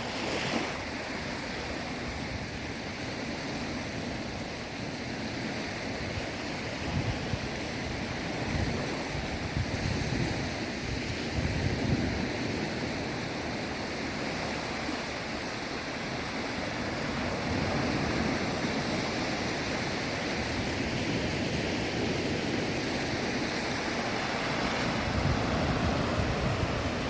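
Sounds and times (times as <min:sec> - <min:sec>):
sea waves washing onto shore: 0:00.0 - 0:27.0.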